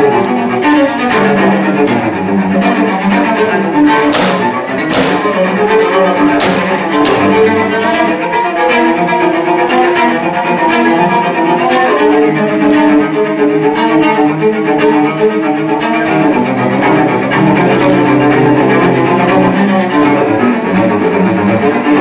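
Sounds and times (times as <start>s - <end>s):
solo cello playing: 0.0s - 22.0s.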